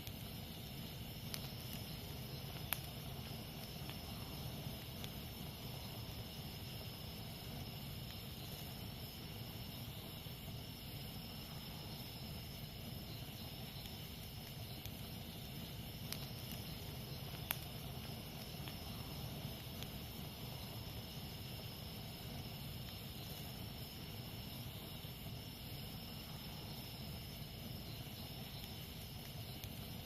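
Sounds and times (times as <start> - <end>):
campfire burning: 0.0 - 30.0
fire popping: 0.0 - 30.0
jungle insects chorus: 0.0 - 30.0.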